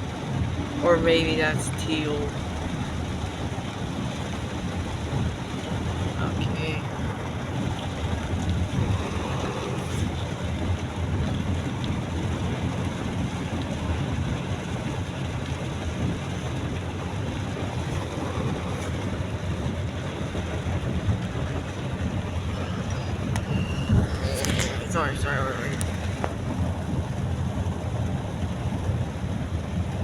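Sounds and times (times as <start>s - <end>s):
low car rumble: 0.0s - 30.0s
rain and wet road rush: 0.0s - 30.0s.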